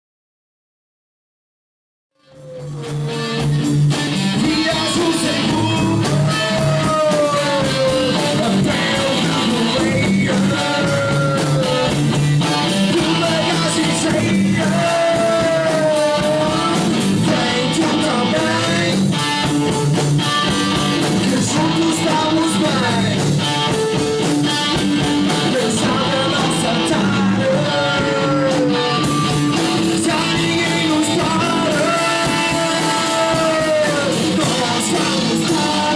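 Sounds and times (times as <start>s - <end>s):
bass guitar: 2.2s - 35.9s
drums: 2.2s - 35.9s
electric guitar: 2.2s - 35.9s
man singing: 2.4s - 19.4s, 20.6s - 23.4s, 25.2s - 35.9s.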